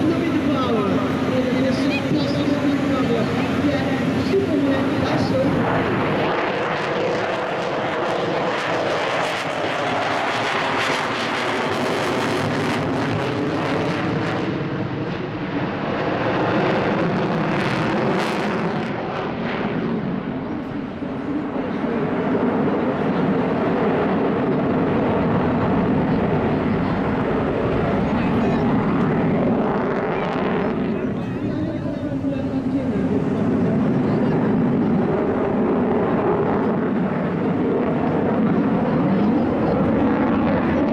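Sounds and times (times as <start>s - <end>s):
jet engine noise: 0.0s - 40.9s.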